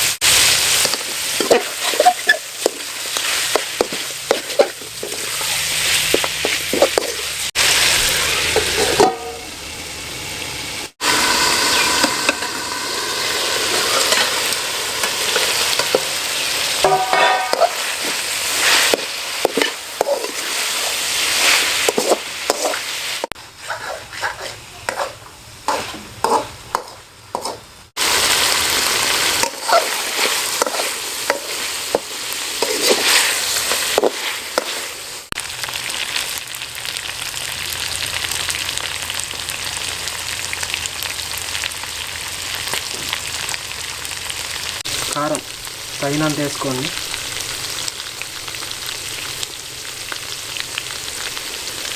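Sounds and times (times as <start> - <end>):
spices sizzling in hot oil: 0.0 - 51.9.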